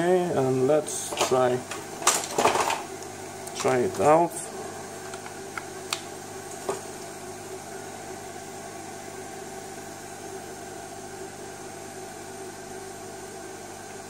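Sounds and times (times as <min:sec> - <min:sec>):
background hiss and hum: 0:00.0 - 0:14.0.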